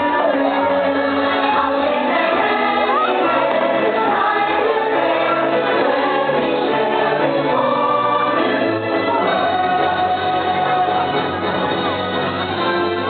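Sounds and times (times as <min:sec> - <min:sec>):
music with choir singing: 0:00.0 - 0:13.0.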